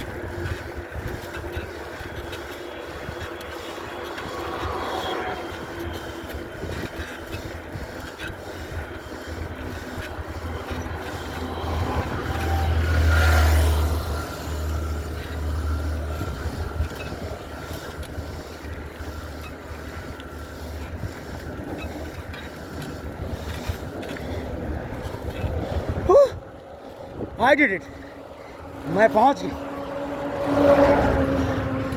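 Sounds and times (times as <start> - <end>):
highway traffic rumble: 0.0 - 31.9
vehicle passing close: 0.4 - 7.4, 8.7 - 21.4, 22.1 - 31.9.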